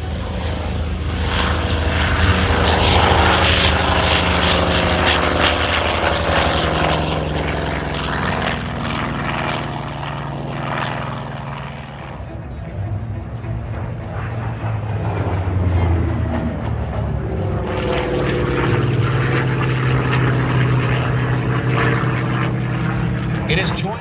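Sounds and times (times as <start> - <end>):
propeller airplane passing overhead: 0.0 - 24.0.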